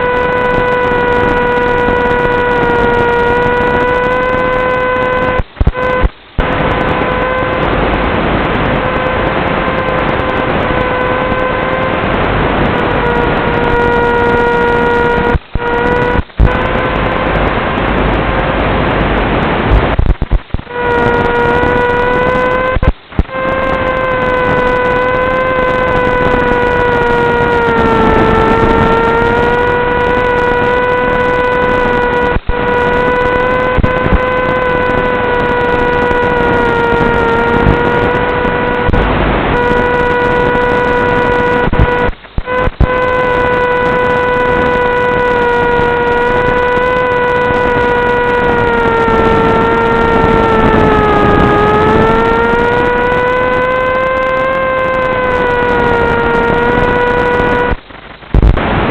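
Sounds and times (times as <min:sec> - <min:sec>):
electric motor and propeller whine: 0:00.0 - 0:58.9.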